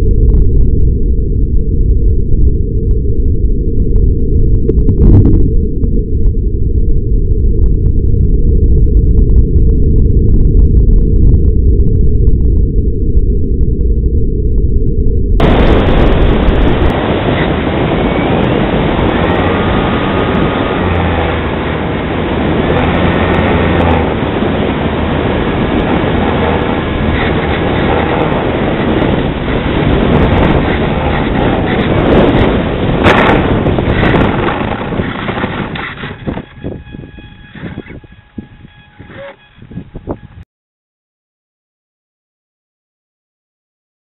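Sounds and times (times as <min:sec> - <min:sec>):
crackle: 0:00.0 - 0:39.8
wind rushing over microphone: 0:00.0 - 0:40.4.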